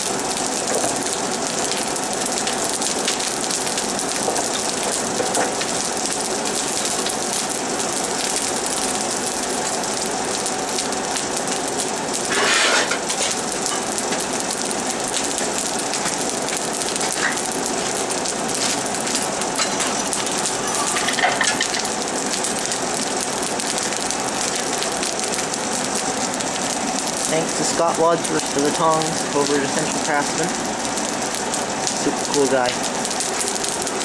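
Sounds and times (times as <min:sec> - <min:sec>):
forge fire hissing and crackling: 0:00.0 - 0:34.0.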